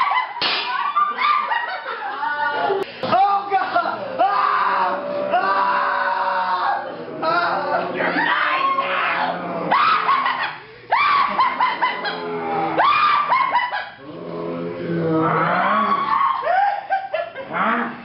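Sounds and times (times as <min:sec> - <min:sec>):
people screaming: 0:00.0 - 0:02.8, 0:04.1 - 0:13.8, 0:15.2 - 0:17.2.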